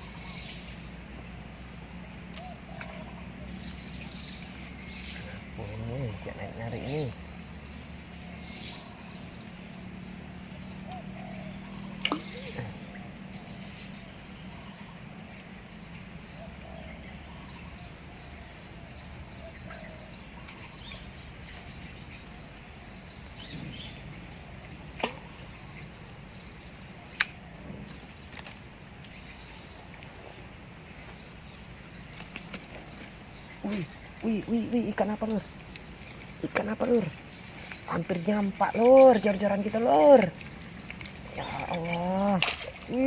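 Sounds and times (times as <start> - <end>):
bird chirps: 0.0 - 43.0
steady background hiss: 0.0 - 43.0.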